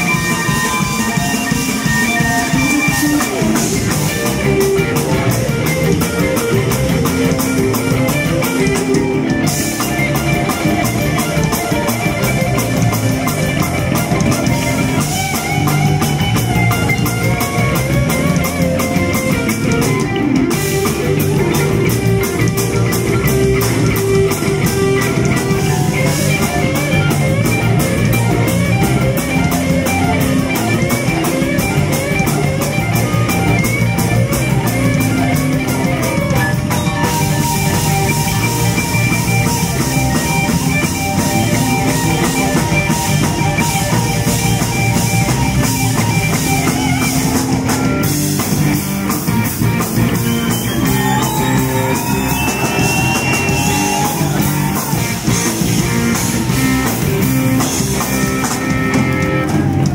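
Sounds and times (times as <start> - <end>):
electric guitar lead: 0.0 - 59.9
live rock band playing: 0.0 - 59.9.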